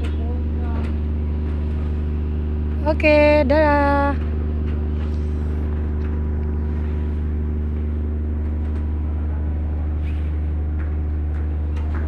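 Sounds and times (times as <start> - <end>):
ferry engines droning: 0.0 - 12.0
hum tones: 0.0 - 12.0.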